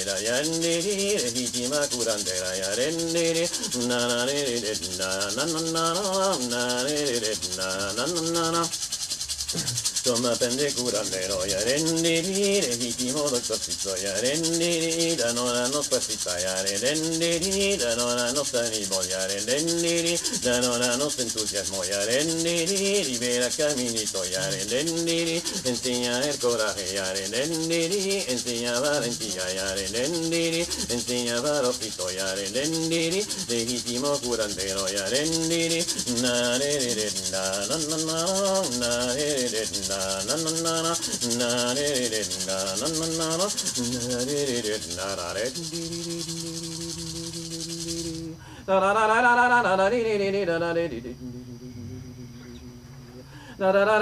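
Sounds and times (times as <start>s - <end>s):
person singing a slow chant: 0.0s - 9.0s, 9.6s - 54.0s
leaf-bundle rattle shaking: 0.0s - 49.1s.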